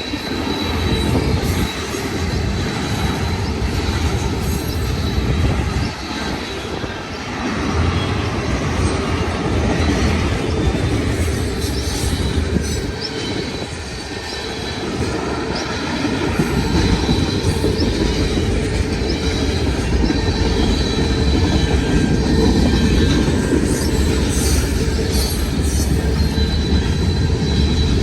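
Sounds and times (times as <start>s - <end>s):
high wheel squeal: 0.0s - 7.2s, 9.7s - 28.0s
freight train rolling past: 0.0s - 28.0s.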